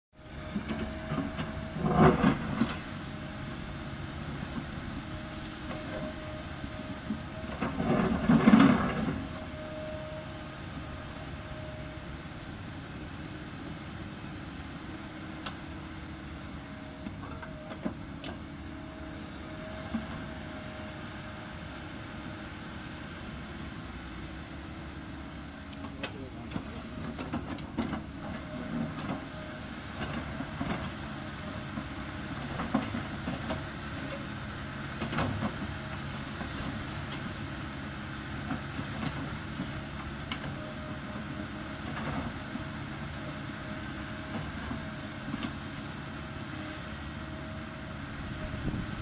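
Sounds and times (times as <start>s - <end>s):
excavator digging into dirt: 0.2s - 22.8s, 23.5s - 49.0s
excavator diesel engine running: 0.2s - 49.0s.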